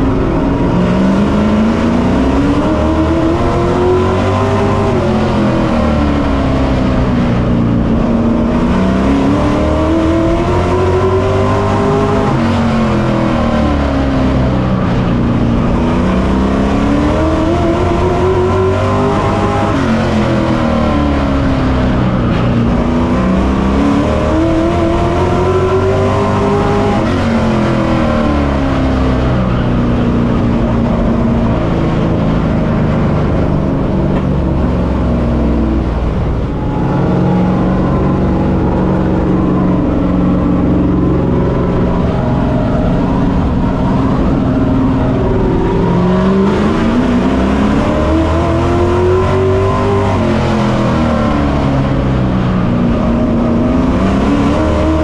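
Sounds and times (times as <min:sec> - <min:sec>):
race truck engine revving: 0:00.0 - 0:55.0.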